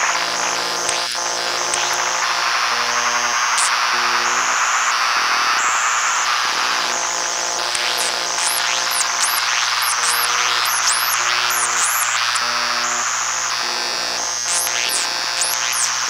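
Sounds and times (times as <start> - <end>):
dense electromagnetic hiss: 0.0 - 16.0
high electronic whines: 0.0 - 16.0.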